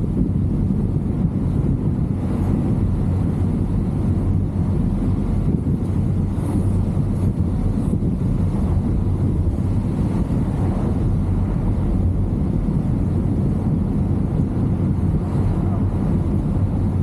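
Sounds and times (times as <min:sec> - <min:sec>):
car engine low rumble: 0:00.0 - 0:17.0
road noise: 0:00.0 - 0:17.0.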